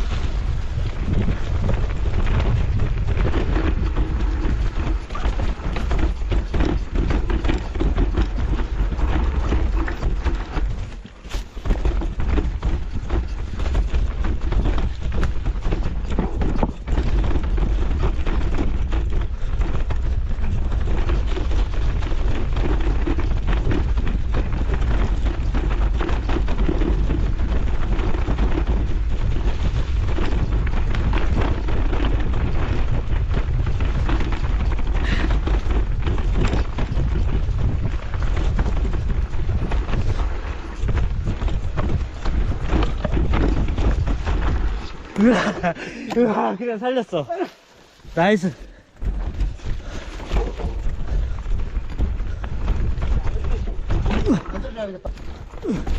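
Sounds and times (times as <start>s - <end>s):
wind rush on microphone: 0.0s - 46.1s, 48.2s - 55.9s
bike tyre and frame clatter: 0.0s - 55.9s.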